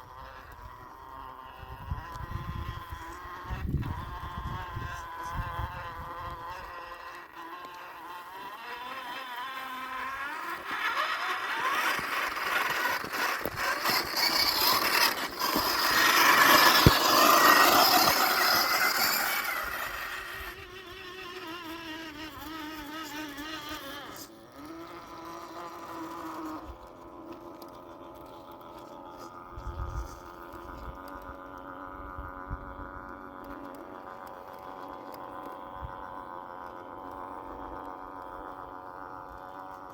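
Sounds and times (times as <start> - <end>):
electric motor and gears whining: 0.0 - 39.9.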